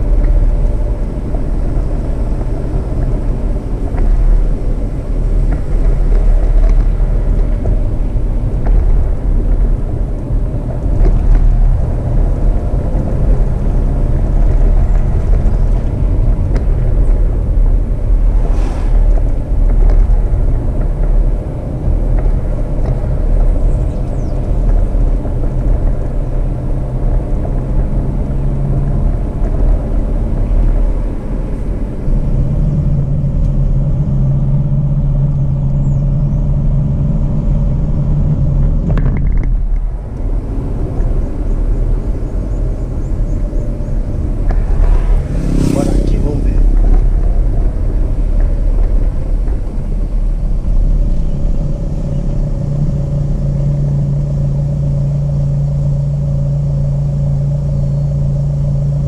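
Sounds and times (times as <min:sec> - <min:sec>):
car engine rumble: 0:00.0 - 0:59.0
tyres on dirt road: 0:00.0 - 0:59.0.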